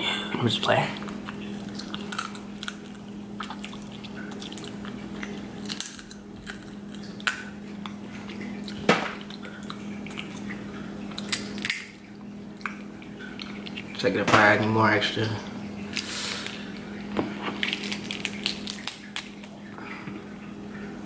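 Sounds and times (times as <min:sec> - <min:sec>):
steady low hum: 0:00.0 - 0:21.0
wet eating and sucking: 0:01.0 - 0:05.6, 0:06.2 - 0:14.0, 0:15.8 - 0:20.4.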